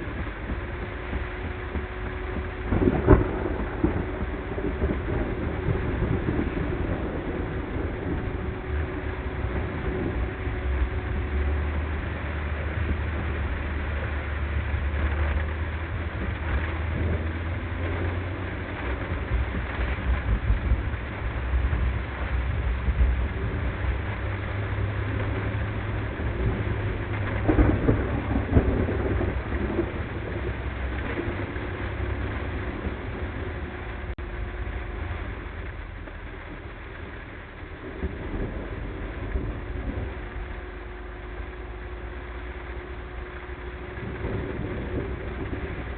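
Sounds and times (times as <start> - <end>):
car road rumble: 0.0 - 45.9
rain hiss: 0.0 - 45.9.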